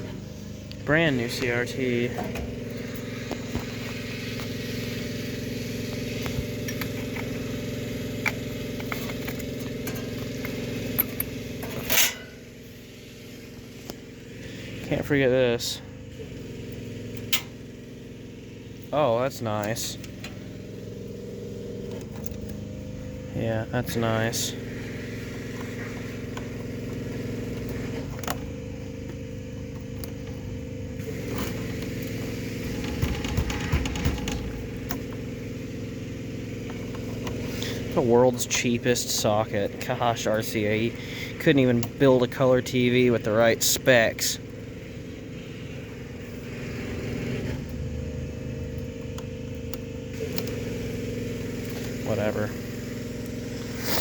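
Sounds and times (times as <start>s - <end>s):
machine hum: 0.0s - 54.0s
mechanical motor drone: 0.0s - 54.0s.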